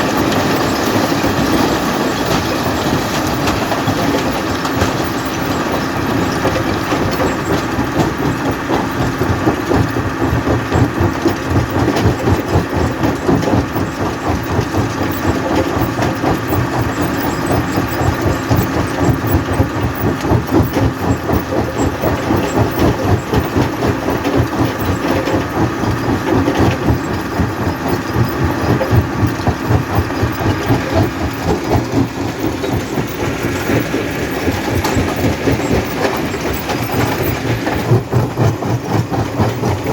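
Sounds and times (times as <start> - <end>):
rock crusher crushing stone: 0.0 - 39.9.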